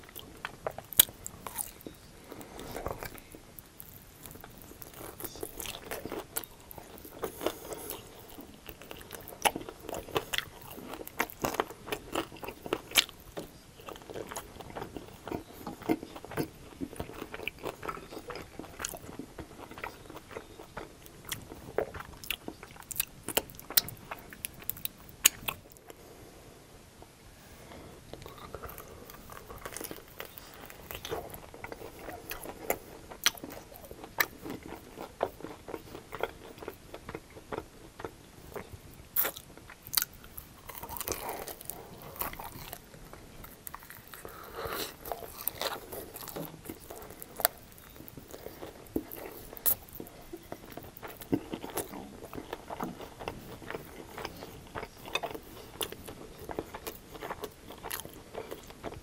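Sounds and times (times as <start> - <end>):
crunching fried chicken: 0.0 - 25.8, 28.2 - 59.0
chewing: 0.0 - 26.0, 28.1 - 59.0.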